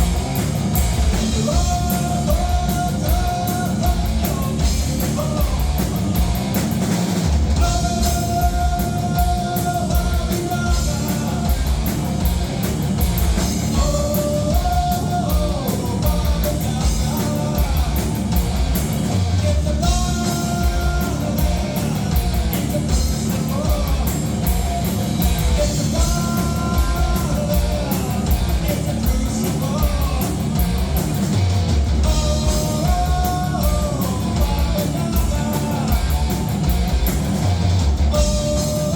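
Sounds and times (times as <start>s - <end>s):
bass guitar: 0.0s - 38.9s
drum kit beat: 0.0s - 38.9s
electric guitar: 0.0s - 38.9s.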